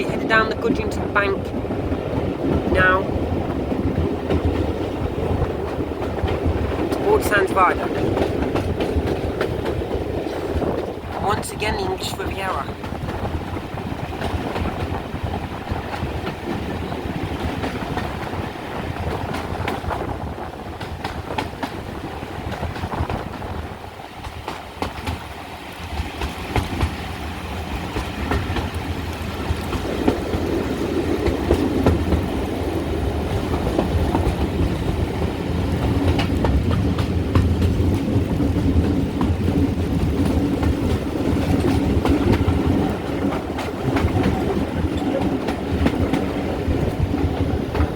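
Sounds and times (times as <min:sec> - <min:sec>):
wheels clacking over rail joints: 0:00.0 - 0:11.5, 0:12.2 - 0:47.9
train rumble and rattle: 0:00.0 - 0:47.9.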